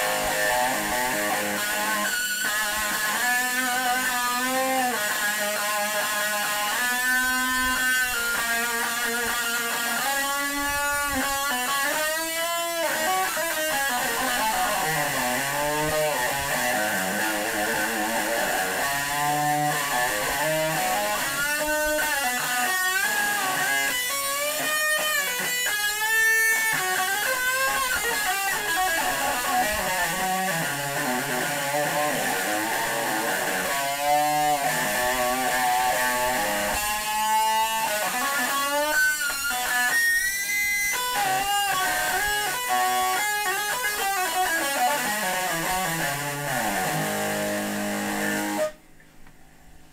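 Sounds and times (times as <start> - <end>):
electric guitar melody: 0.0 - 48.9.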